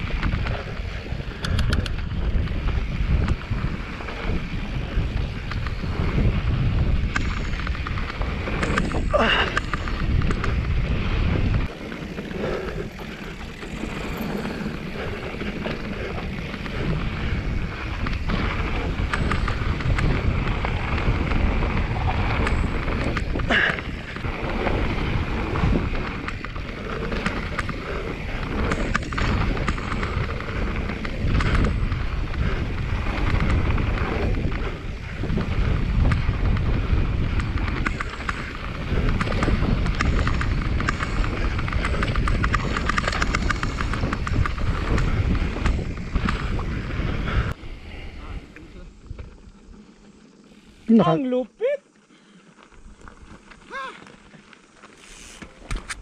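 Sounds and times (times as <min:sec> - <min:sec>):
wind buffeting microphone: 0:00.0 - 0:51.0
bike clicks and rattles: 0:00.0 - 0:56.0
tyres rumbling on dirt trail: 0:00.0 - 0:56.0.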